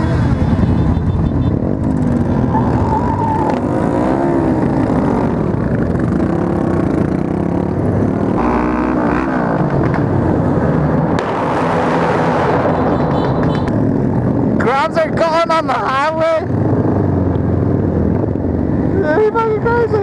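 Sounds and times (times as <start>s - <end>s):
motorcycles accelerating: 0.0s - 20.0s.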